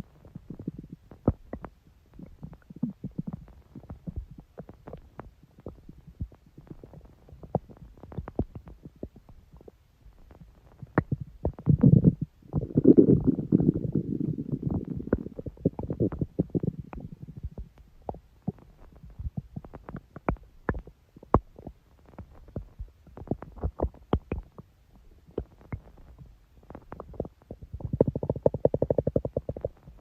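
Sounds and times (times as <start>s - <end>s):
stomach growling and gurgling: 0.0s - 30.0s.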